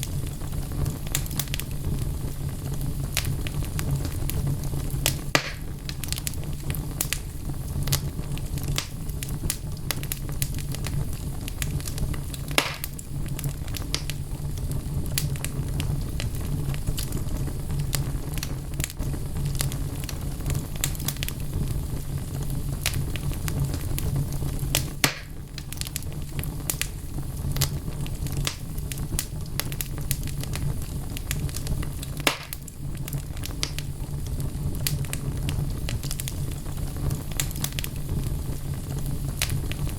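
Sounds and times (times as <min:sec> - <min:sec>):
burning logs popping: 0:00.0 - 0:39.9
low rumble of flame: 0:00.0 - 0:39.9
wood fire crackling: 0:00.0 - 0:39.9.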